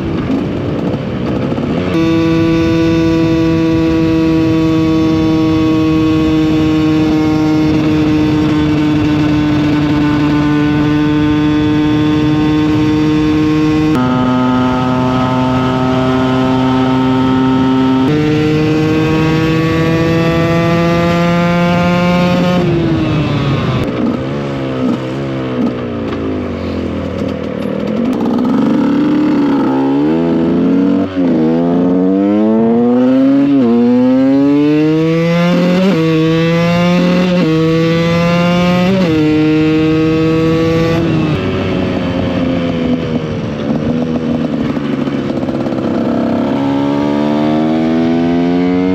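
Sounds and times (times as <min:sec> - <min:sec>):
two-stroke engine revving: 0:00.1 - 0:26.0, 0:27.8 - 0:48.9.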